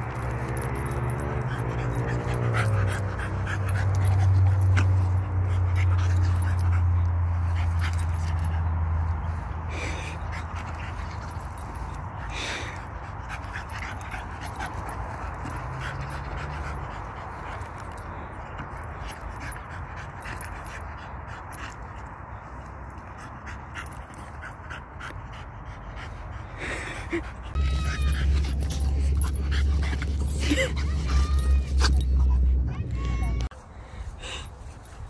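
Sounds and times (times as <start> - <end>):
breathy dog sounds: 0.0 - 32.6.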